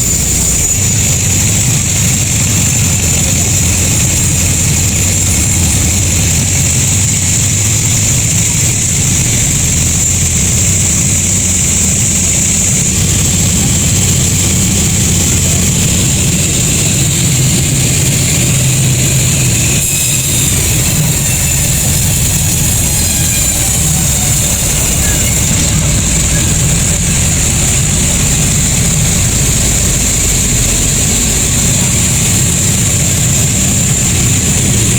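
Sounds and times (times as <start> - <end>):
high-pitched machine whine: 0.0 - 34.9
low motor hum: 0.0 - 34.9.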